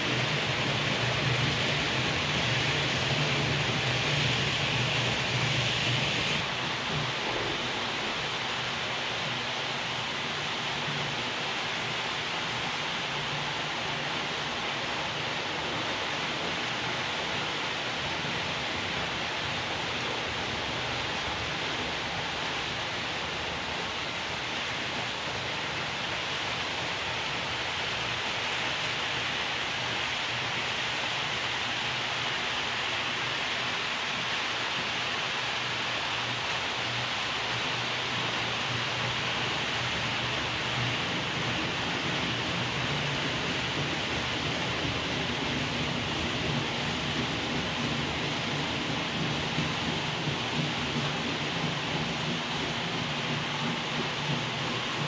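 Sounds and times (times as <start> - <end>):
model train wheels on rails: 0.0 - 55.0.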